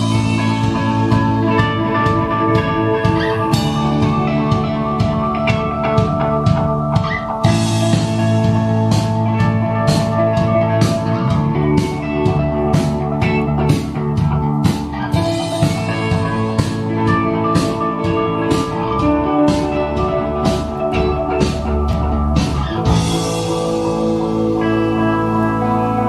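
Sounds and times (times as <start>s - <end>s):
drum beat: 0.0s - 24.8s
rock band playing: 0.0s - 26.0s.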